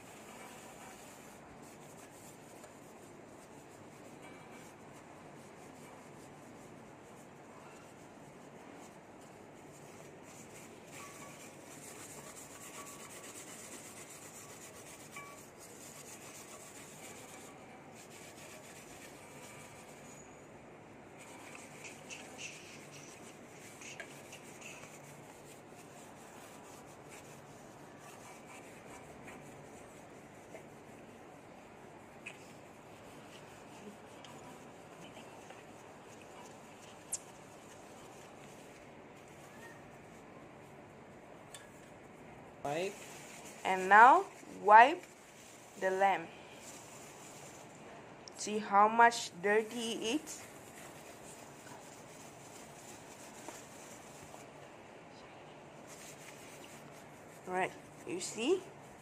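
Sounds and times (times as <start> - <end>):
rubbing metal with tissue: 0.0 - 47.8, 48.7 - 54.6, 55.7 - 59.0.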